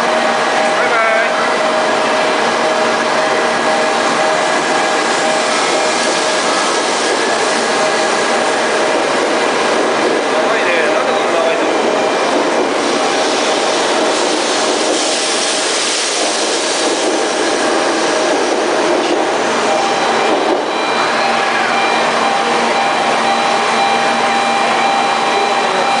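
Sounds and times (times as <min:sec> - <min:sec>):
train rushing air and wheels: 0:00.0 - 0:26.0.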